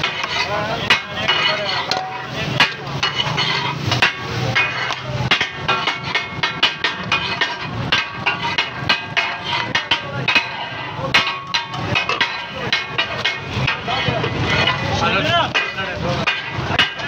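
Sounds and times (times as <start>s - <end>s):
metal spatula clanging on griddle: 0.0s - 17.0s
spatula striking steel bowl: 0.0s - 17.0s.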